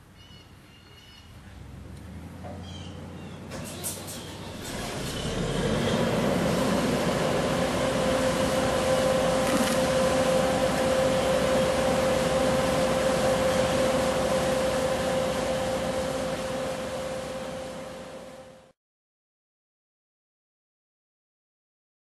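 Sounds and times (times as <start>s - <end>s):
machine drone with hum: 1.0s - 18.8s.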